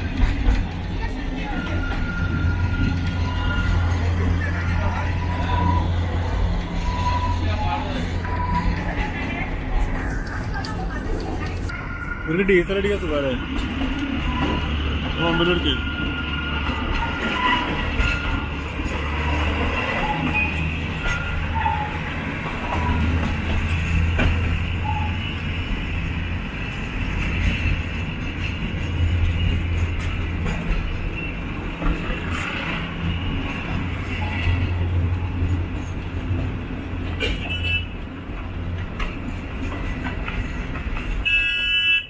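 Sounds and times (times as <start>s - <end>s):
wheels clicking on rails: 0.0s - 41.8s
train rumbling from on board: 0.0s - 42.0s.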